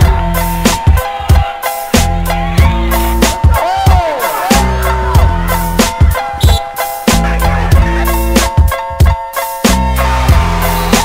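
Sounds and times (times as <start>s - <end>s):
music with heavy bass and drums: 0.0s - 11.0s.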